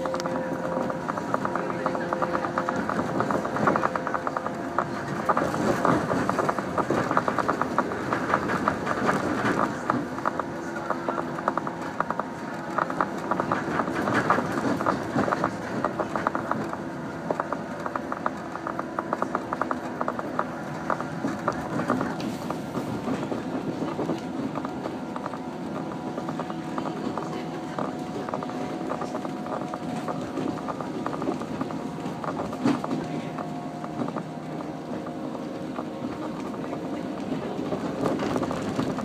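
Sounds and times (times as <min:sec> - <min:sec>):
train running hum: 0:00.0 - 0:39.0
train wheel and body rattle: 0:00.0 - 0:39.0.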